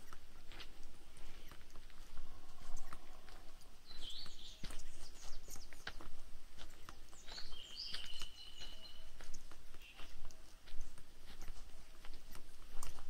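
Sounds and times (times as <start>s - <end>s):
footsteps crunching on dirt trail: 0.0s - 13.0s
forest birds singing: 0.0s - 13.0s.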